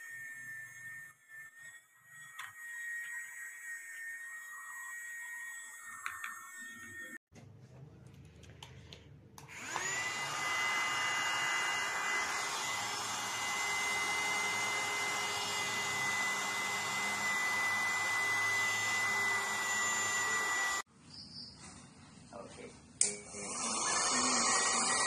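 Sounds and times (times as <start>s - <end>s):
handheld vacuum cleaner whining: 0.0s - 7.3s, 9.4s - 20.9s, 23.0s - 25.0s.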